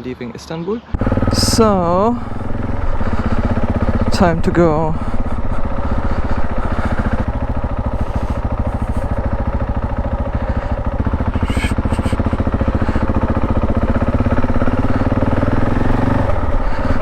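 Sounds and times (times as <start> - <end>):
motorcycle engine running: 1.0 - 17.0.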